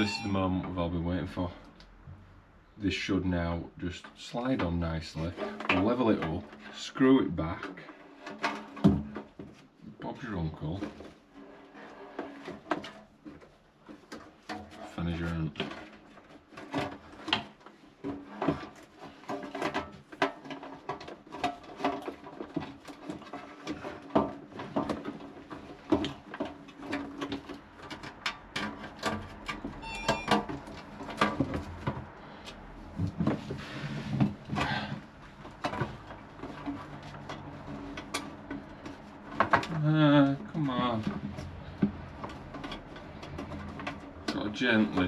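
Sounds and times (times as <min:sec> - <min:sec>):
plastic parts clicking and rattling: 0:04.0 - 0:09.6, 0:10.6 - 0:45.0.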